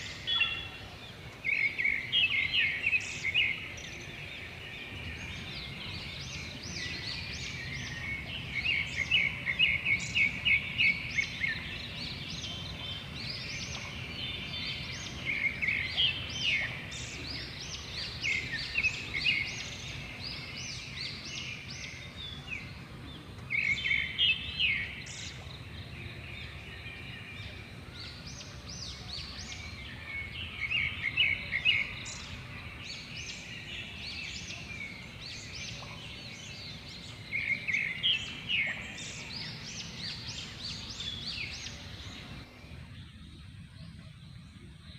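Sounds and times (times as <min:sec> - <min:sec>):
birds chirping and twittering: 0:00.0 - 0:44.9
steady low outdoor hum: 0:00.0 - 0:44.9.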